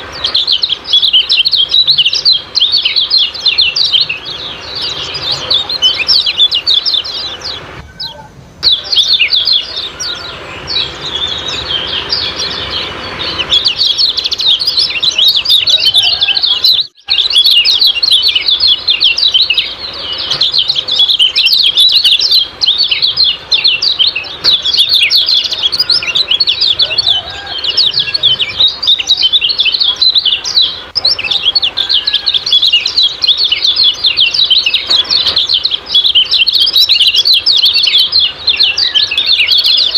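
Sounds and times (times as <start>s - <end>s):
bird chattering call: 0.0s - 39.9s.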